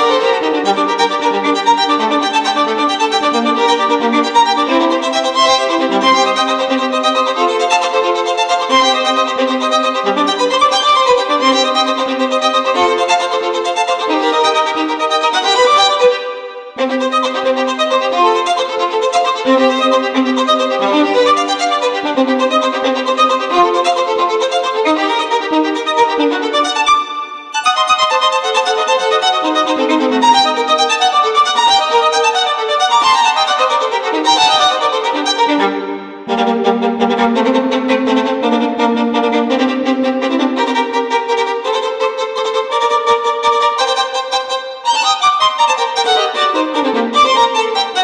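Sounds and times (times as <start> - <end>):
instrumental music with violin melody: 0.0 - 48.0.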